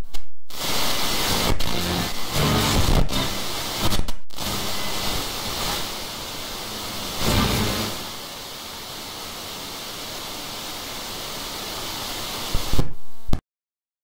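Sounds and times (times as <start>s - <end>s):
static hiss: 0.5s - 13.3s.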